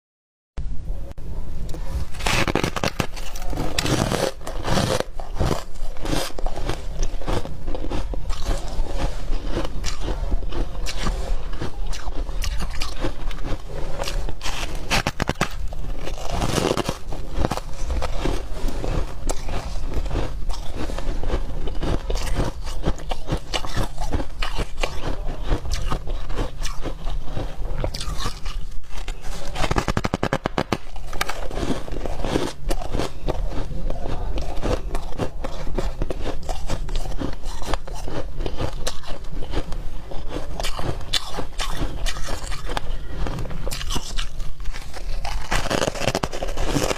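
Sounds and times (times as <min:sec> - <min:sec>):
chewing crunchy ice: 0:01.7 - 0:46.9.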